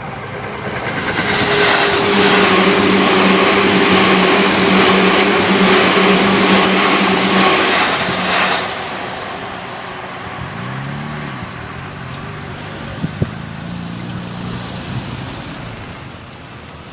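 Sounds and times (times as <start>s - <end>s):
electric train rumble: 0.0s - 16.9s.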